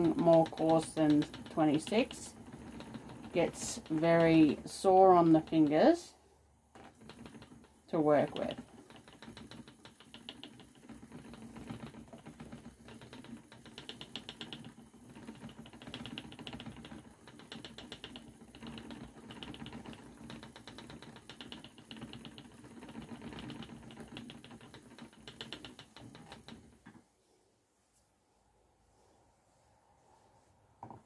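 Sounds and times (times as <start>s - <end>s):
rapid clicking: 0.0s - 6.0s, 6.7s - 27.0s
spinning wheel hum: 0.0s - 27.0s.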